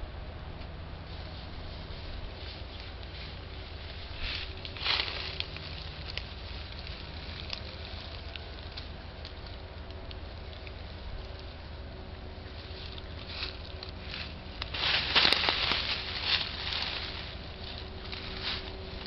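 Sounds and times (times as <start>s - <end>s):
faint crackling: 0.6s - 19.0s.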